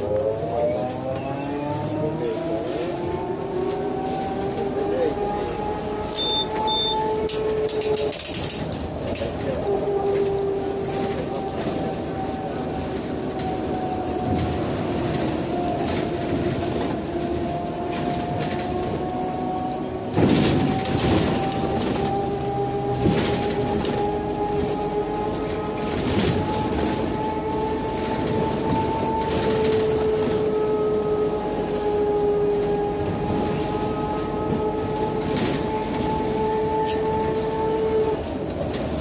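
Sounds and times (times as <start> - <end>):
road rumble: 0.0 - 39.0
trolleybus motor whine: 0.0 - 39.0.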